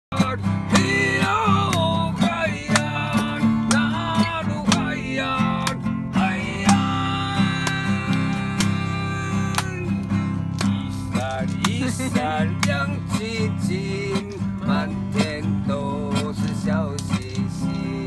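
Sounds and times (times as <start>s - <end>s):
strummed acoustic guitar: 0.1s - 18.0s.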